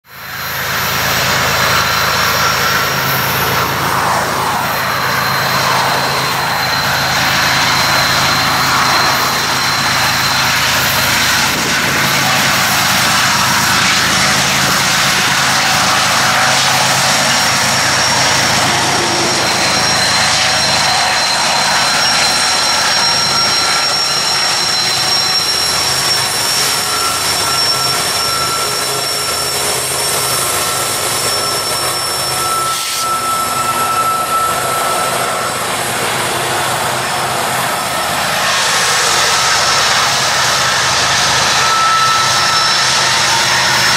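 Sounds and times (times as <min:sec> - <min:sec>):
diesel engine drone: 0:00.0 - 0:43.9
train passing: 0:00.1 - 0:43.9
thin high whines: 0:00.2 - 0:43.9.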